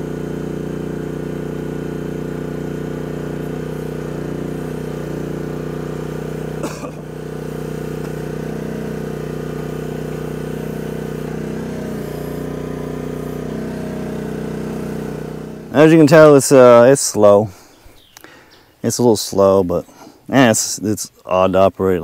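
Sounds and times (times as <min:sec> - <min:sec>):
hydraulic auger drilling clay: 0:00.0 - 0:18.5
excavator engine running: 0:00.0 - 0:18.6.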